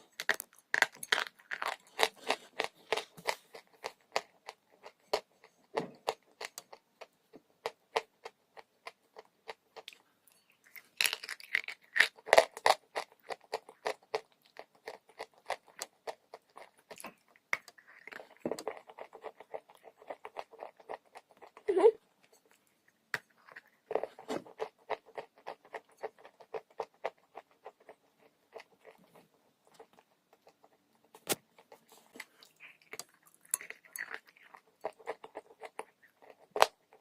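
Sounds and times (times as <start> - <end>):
chalk crunching when chewed: 0.0 - 21.7, 22.4 - 37.0.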